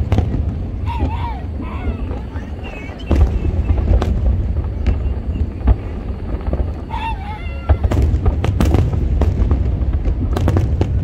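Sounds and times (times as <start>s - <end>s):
fireworks booming and banging: 0.0s - 11.0s.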